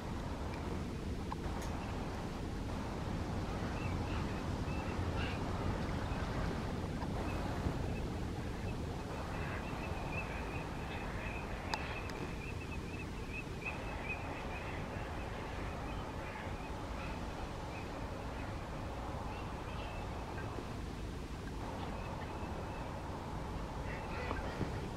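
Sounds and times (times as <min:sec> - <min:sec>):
low steady rumble: 0:00.0 - 0:24.9
birds calling: 0:03.6 - 0:20.7, 0:21.5 - 0:24.9.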